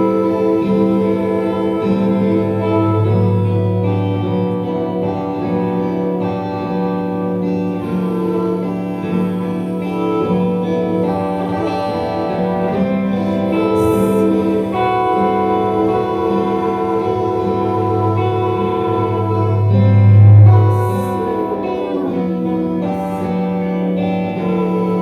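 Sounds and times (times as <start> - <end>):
instrumental music of held chords: 0.0 - 25.0.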